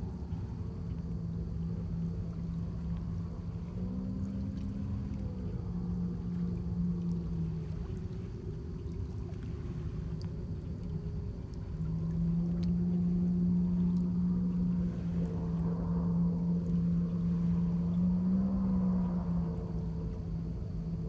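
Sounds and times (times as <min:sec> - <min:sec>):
distant engine drone: 0:00.0 - 0:21.0.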